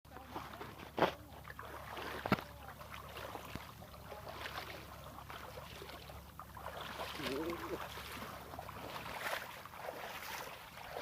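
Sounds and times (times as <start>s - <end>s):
water sloshing and splashing: 0.1s - 11.0s.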